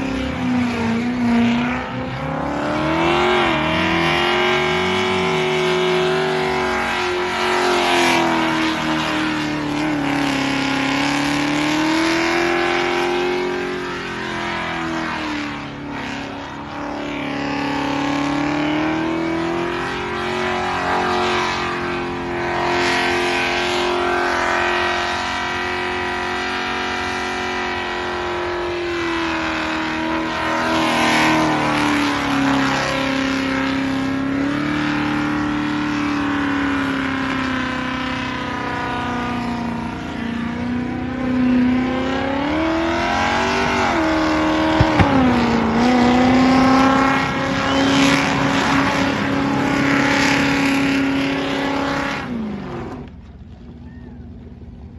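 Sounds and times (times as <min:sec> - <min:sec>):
engine revving at high revs: 0:00.0 - 0:53.0.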